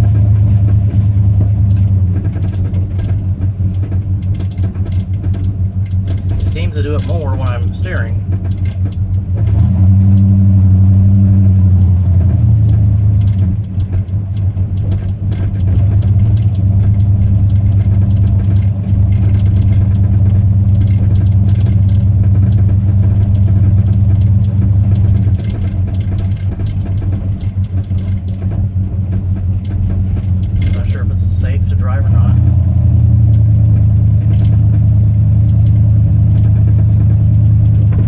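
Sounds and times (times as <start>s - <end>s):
car engine deep rumble: 0.0s - 38.0s.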